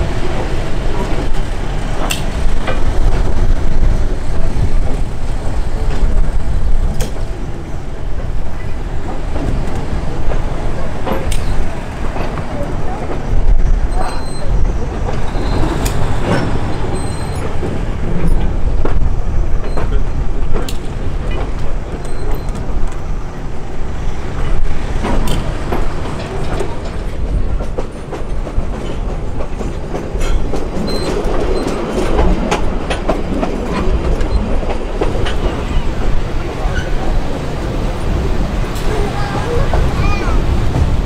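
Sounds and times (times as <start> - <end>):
train wheels rumbling on rail: 0.0 - 41.0
wheels clicking over rail joints: 0.0 - 41.0.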